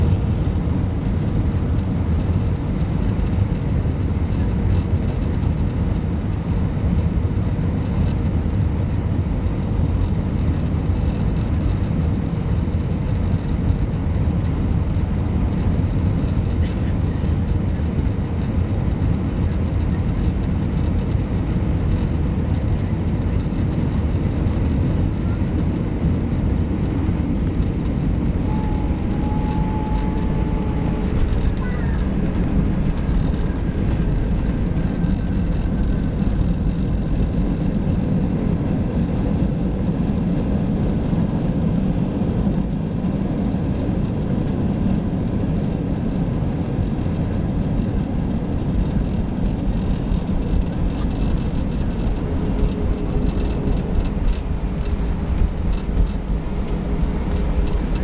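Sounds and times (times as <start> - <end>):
faint steady whine: 0.0 - 39.6, 45.5 - 58.0
airplane cabin engine roar: 0.0 - 58.0.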